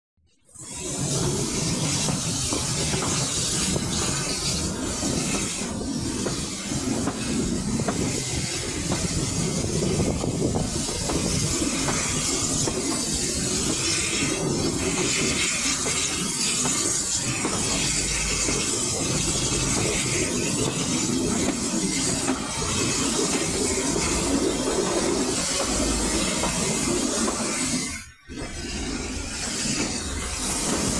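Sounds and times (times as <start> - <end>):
train wheels rumbling on rails: 0.6 - 30.9
wind noise and hiss: 0.6 - 30.9
rail joint clicks: 0.8 - 30.9.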